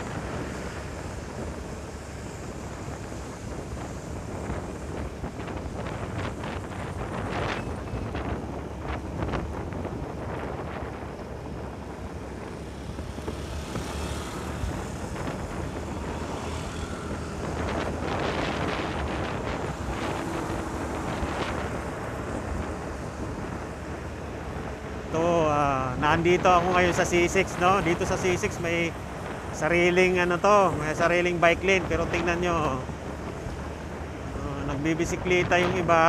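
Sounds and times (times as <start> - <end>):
motorcycle engine and tyres droning: 0.0 - 36.0
wind buffeting microphone: 0.0 - 36.0.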